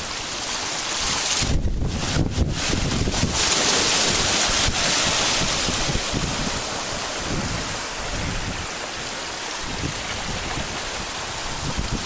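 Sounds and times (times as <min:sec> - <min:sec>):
hiss of choppy sea surf: 0:00.0 - 0:12.0
strong wind buffeting microphone: 0:00.0 - 0:12.0.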